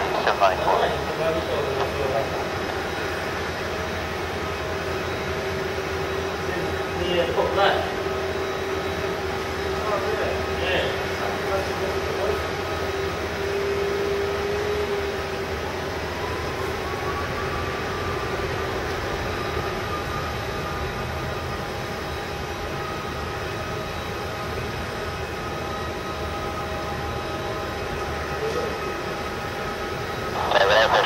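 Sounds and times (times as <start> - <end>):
jet engine whine: 0.0 - 31.0
jet engines rumbling: 0.0 - 31.0.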